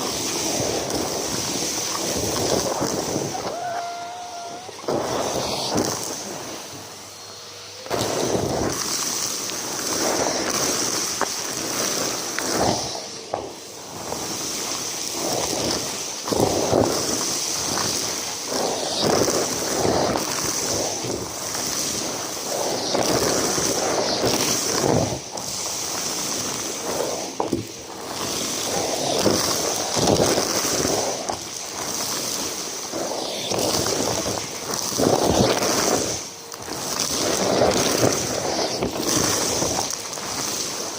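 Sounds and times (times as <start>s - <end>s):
vacuum cleaner whining: 0.0s - 40.9s
vacuum sucking up debris: 0.0s - 40.9s.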